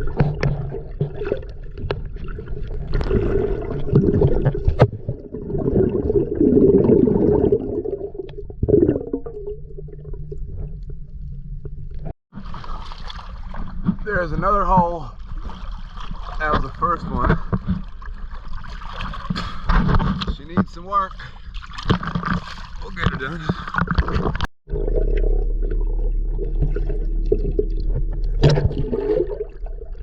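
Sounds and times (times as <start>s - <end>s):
muffled water gurgling and sloshing: 0.0s - 30.0s.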